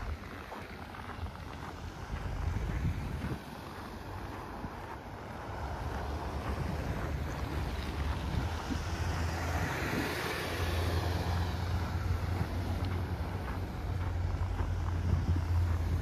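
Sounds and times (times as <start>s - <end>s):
street traffic passing: 0.0s - 16.0s
wind rumble on microphone: 0.0s - 16.0s.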